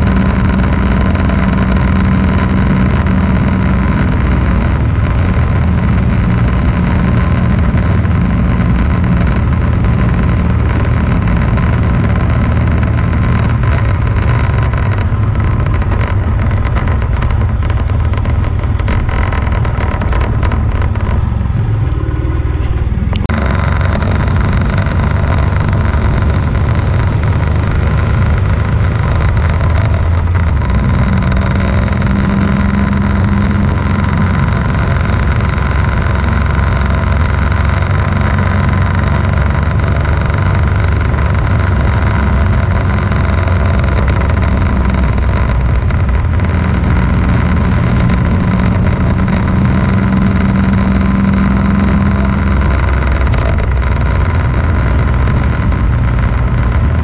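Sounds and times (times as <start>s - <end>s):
vehicle engine hum: 0.0s - 57.0s
wind and tyre noise: 0.0s - 57.0s.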